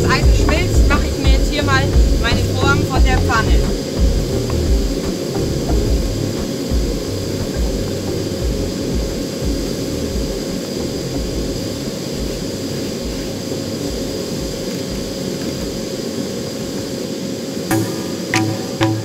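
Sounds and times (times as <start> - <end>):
furnace burner roaring: 0.0 - 19.0.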